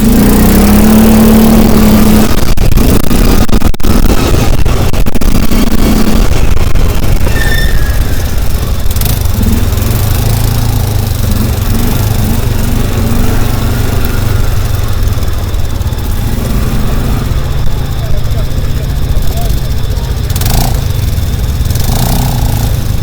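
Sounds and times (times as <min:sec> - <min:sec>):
road or wind noise: 0:00.0 - 0:23.0
vehicle engine humming: 0:00.0 - 0:23.0.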